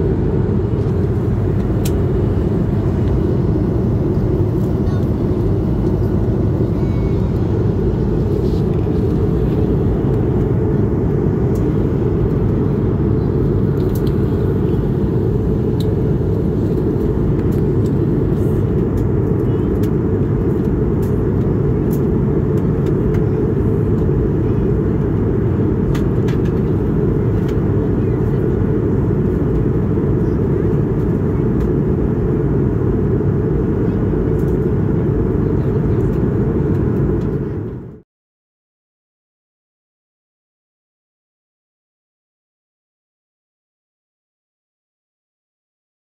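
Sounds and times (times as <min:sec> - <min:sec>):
air rushing along fuselage: 0:00.0 - 0:38.0
airplane cabin engine rumble: 0:00.0 - 0:38.0.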